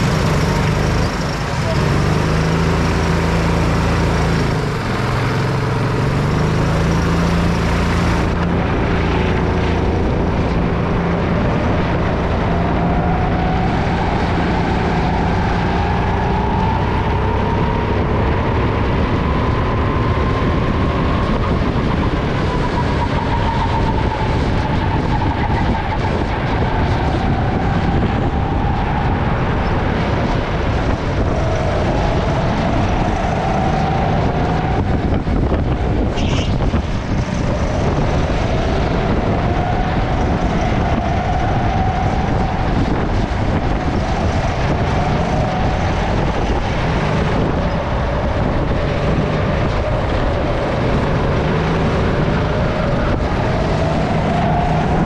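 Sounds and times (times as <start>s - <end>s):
go-kart engine revving: 0.0s - 55.0s
wind noise on microphone: 0.0s - 55.0s.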